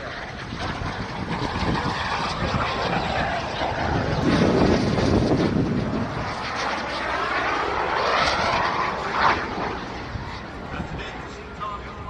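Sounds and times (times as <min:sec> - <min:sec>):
airplane flying past: 0:00.0 - 0:12.0.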